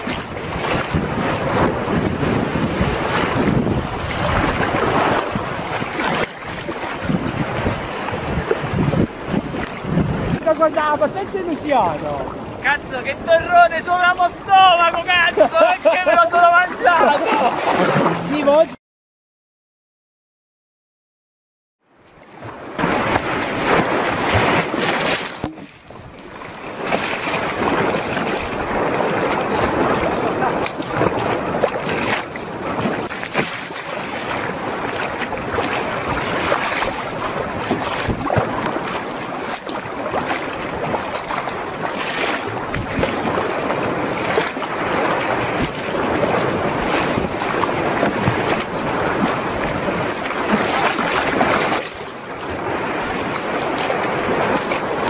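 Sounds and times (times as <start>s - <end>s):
wind buffeting microphone: 0.0s - 18.6s, 22.4s - 55.0s
water splashing around kayak: 0.0s - 18.8s, 21.9s - 55.0s.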